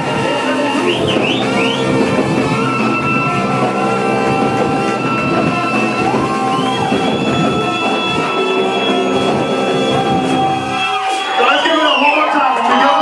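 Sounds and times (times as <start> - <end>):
music with held notes: 0.0 - 11.4.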